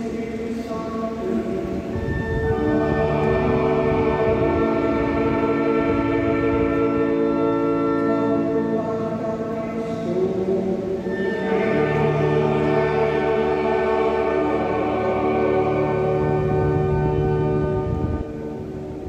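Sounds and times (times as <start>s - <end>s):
choir singing held chords: 1.2s - 19.0s
instrumental accompaniment: 1.9s - 9.5s, 10.3s - 19.0s.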